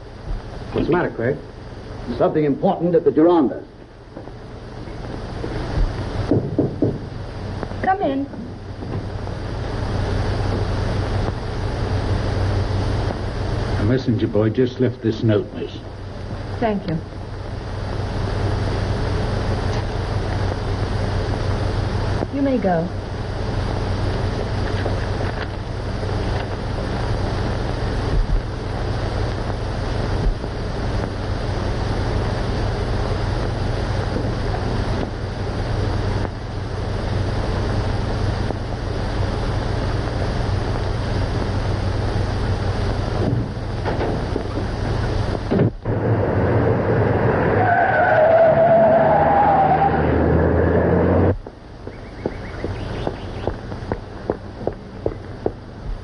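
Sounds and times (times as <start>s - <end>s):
film soundtrack hiss and hum: 0.0s - 56.0s.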